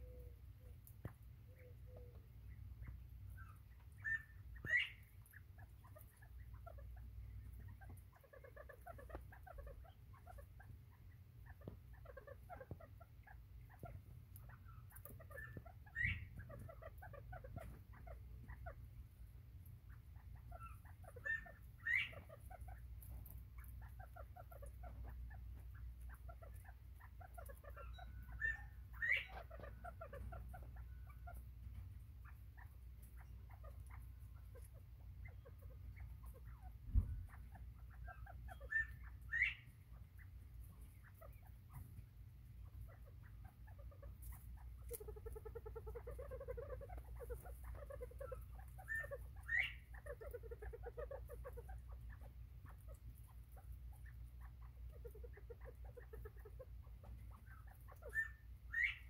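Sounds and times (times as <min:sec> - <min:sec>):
quail soft chatter: 0:00.0 - 0:59.0.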